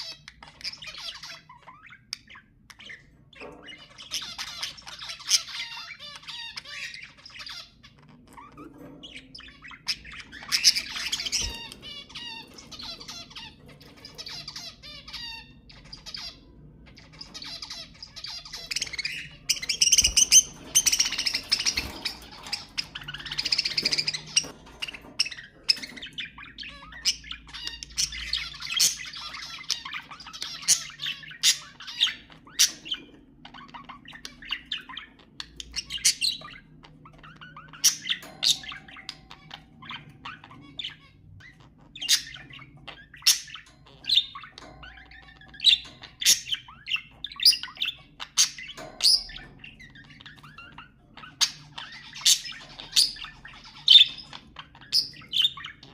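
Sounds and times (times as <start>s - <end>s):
budgerigars chirping and warbling: 0.0s - 55.9s.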